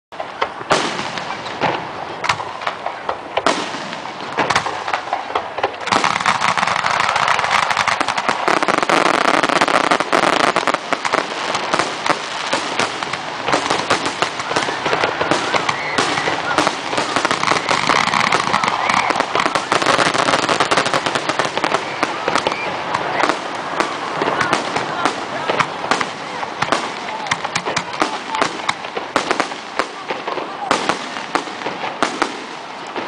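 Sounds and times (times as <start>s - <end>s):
fireworks bursts and bangs: 0.1s - 33.0s.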